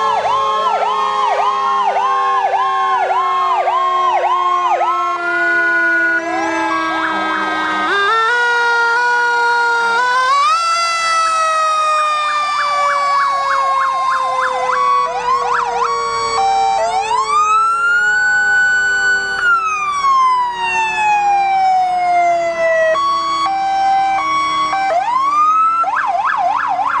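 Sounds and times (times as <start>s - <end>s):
fire truck sirens: 0.0s - 27.0s.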